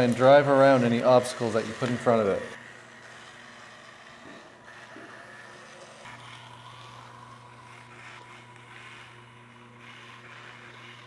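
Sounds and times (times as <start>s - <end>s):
electric motors whirring: 0.0s - 11.0s.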